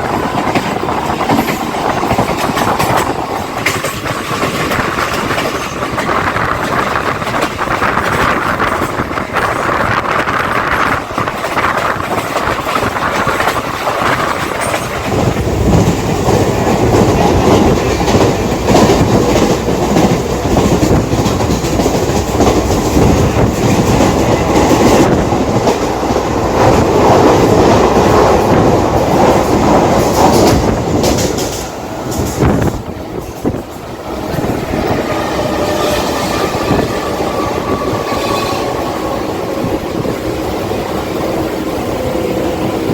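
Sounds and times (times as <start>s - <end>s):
electric train running: 0.0s - 42.9s.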